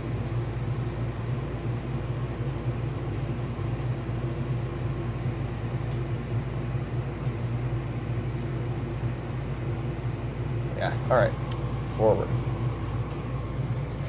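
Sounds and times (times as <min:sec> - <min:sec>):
ceiling fan humming: 0:00.0 - 0:14.0.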